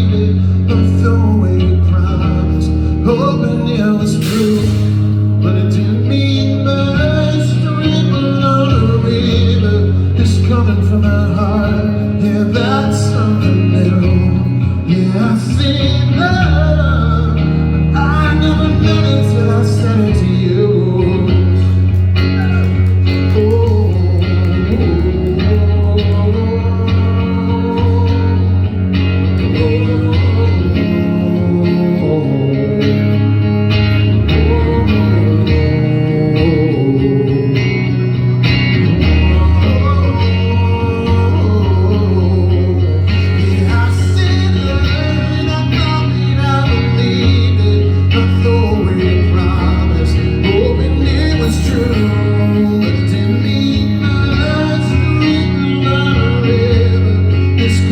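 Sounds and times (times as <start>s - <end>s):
guitar melody: 0.0s - 57.9s
live rock band playing: 0.0s - 57.9s.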